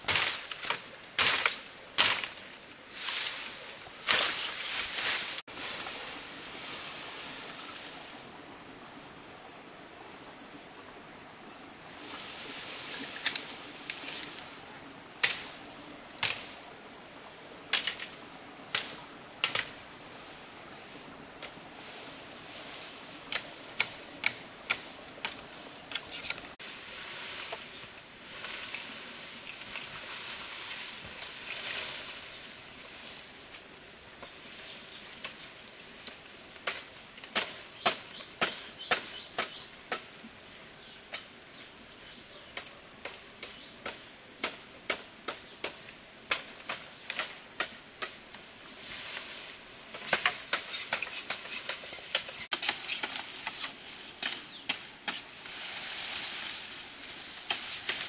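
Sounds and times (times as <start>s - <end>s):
soft hiss: 0.0s - 58.0s.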